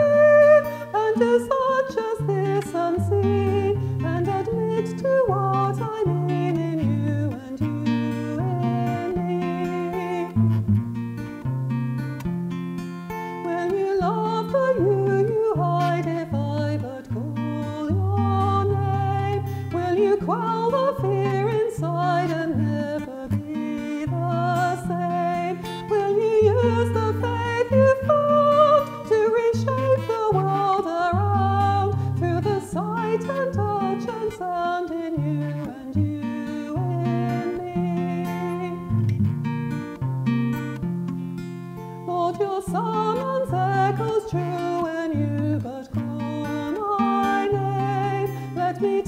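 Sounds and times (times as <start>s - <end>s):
woman singing a hymn: 0.0s - 10.5s, 13.4s - 39.0s, 42.0s - 49.0s
strummed acoustic guitar: 0.0s - 49.0s.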